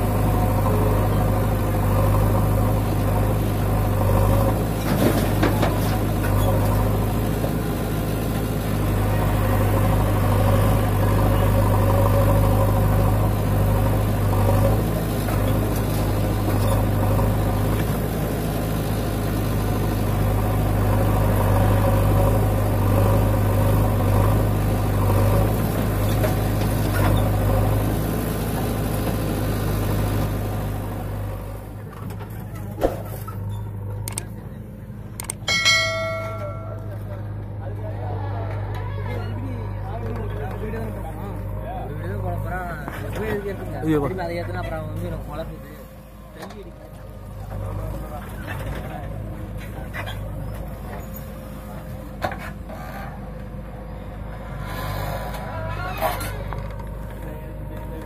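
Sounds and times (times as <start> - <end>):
backhoe diesel engine running: 0.0 - 58.0.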